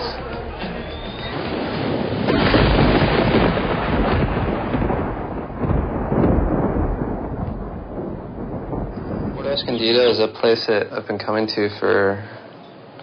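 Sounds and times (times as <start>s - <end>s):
heavy surf breaking: 0.0s - 12.2s.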